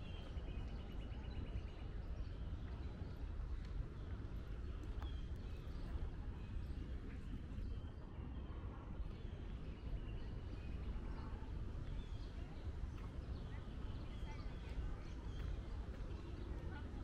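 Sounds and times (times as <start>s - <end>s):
low city rumble: 0.0s - 17.0s.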